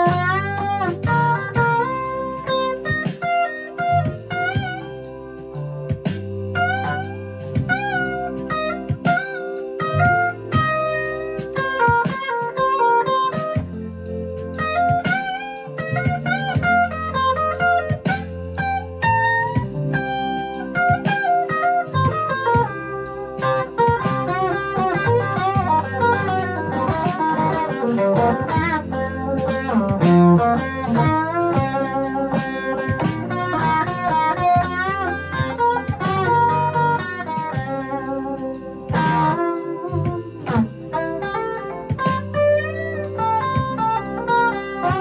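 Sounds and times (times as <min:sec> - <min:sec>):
electric guitar lead lines: 0:00.0 - 0:45.0.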